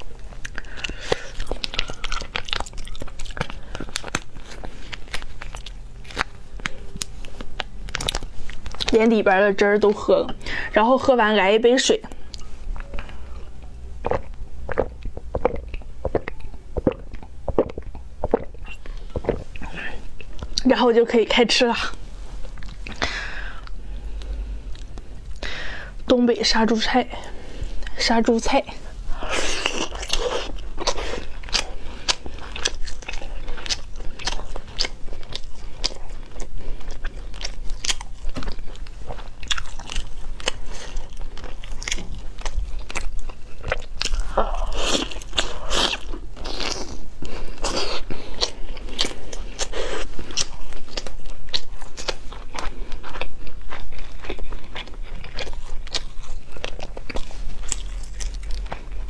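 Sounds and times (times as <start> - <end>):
crunching while chewing: 0.0 - 9.1, 12.0 - 20.7, 22.3 - 25.6, 29.0 - 59.0.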